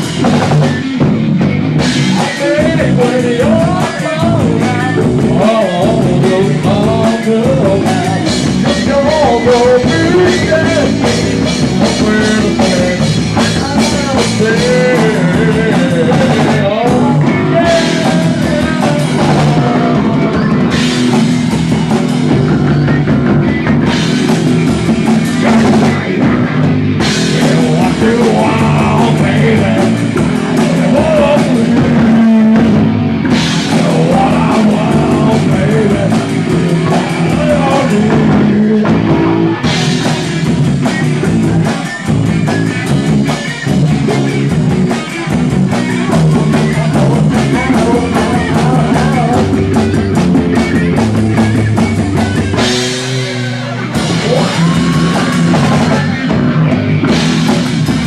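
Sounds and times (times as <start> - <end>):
live rock band playing: 0.0 - 58.0
person singing: 1.8 - 23.4, 25.1 - 42.1, 42.7 - 58.0.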